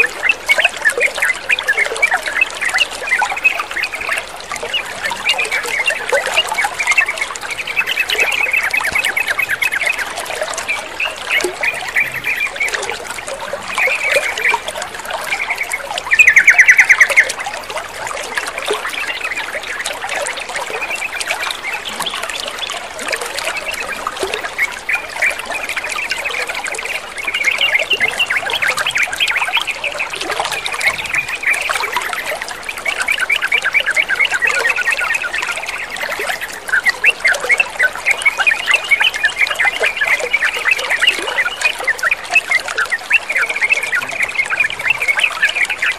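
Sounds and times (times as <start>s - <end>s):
birds chattering: 0.0s - 45.9s
trickling water: 0.0s - 45.9s.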